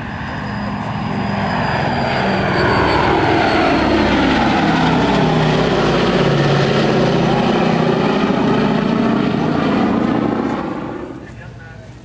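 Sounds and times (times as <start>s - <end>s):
piston aircraft engines droning: 0.0s - 12.0s.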